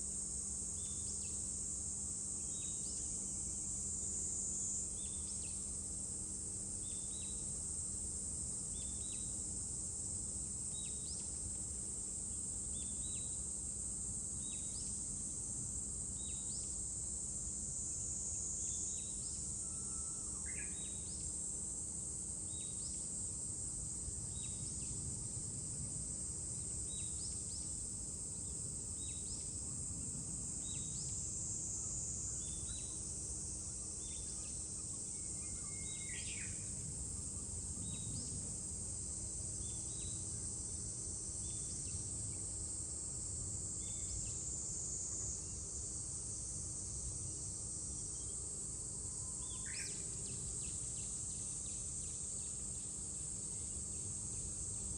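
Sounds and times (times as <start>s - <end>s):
cicadas droning: 0.0s - 54.9s.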